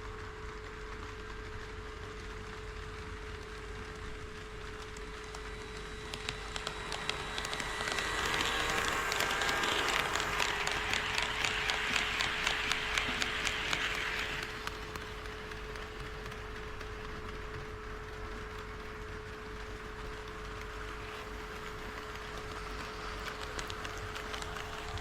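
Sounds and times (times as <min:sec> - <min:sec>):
model train running: 0:00.0 - 0:25.0
wheels clicking over rail joints: 0:04.7 - 0:25.0.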